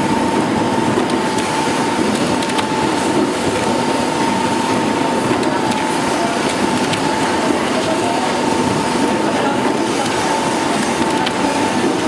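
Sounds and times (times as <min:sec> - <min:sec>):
machine whine: 0:00.0 - 0:12.0.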